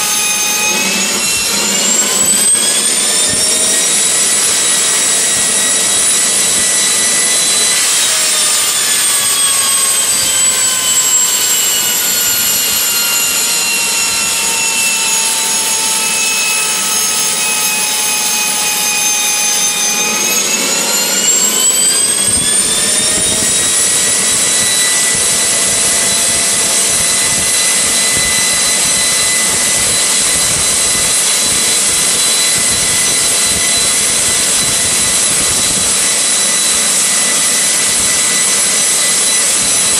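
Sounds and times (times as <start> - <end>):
turbine engine whine: 0.0 - 39.9.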